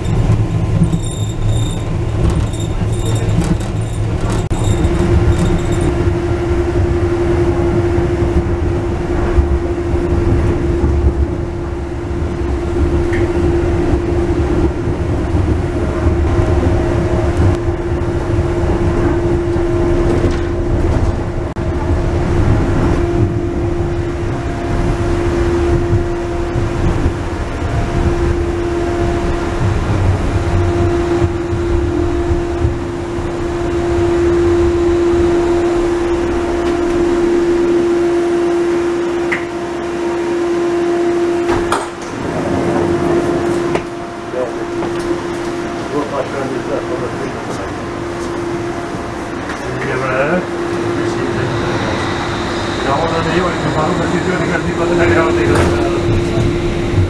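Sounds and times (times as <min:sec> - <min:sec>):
constant hum: 0:00.0 - 0:57.0
railway car low rumble: 0:00.0 - 0:57.0.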